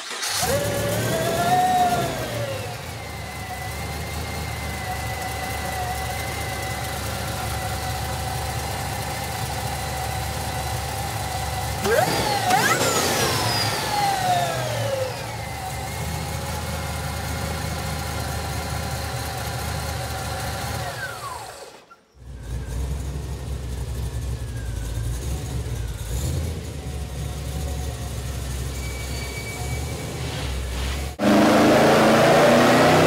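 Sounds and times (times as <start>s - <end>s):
car engine revving and idling: 0.0s - 33.0s.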